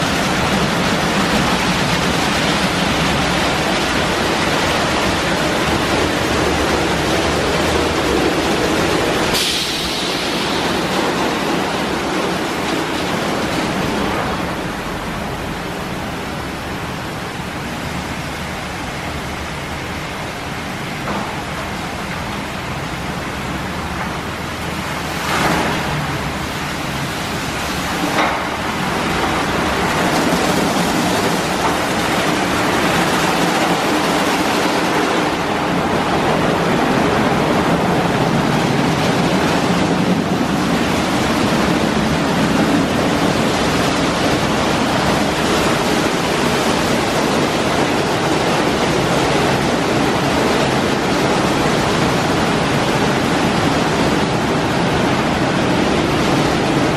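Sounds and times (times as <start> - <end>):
car wash brushes and spray: 0.0 - 56.9.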